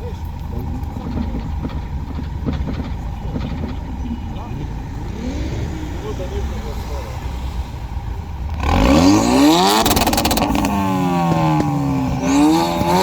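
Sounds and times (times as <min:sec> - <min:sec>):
car engine revving: 0:00.0 - 0:13.0
exhaust pops and bangs: 0:00.0 - 0:13.0.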